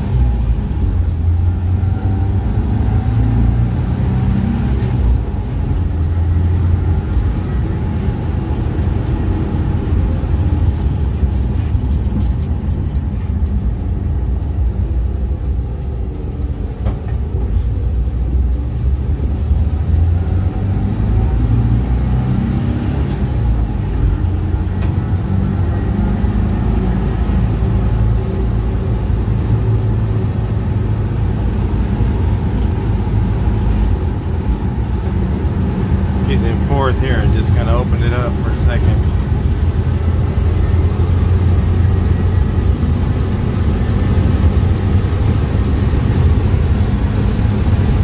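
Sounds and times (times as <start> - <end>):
pickup engine droning: 0.0 - 48.0
road noise: 0.0 - 48.0.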